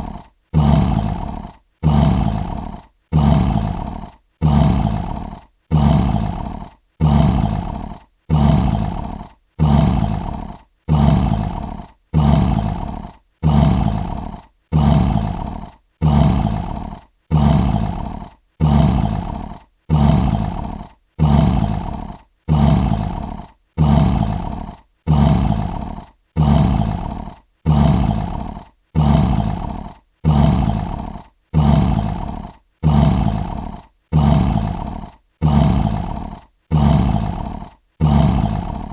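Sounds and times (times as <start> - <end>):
lion roar: 0.0 - 38.9.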